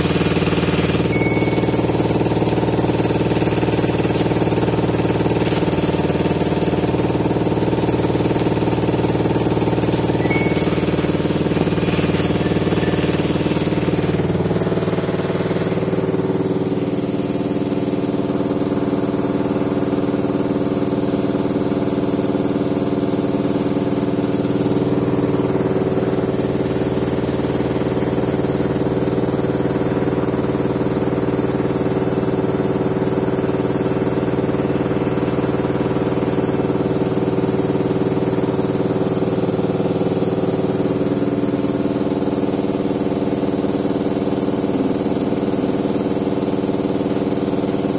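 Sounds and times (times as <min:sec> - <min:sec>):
washing machine rattling: 0:00.0 - 0:47.9
washing machine spinning whine: 0:00.0 - 0:47.9.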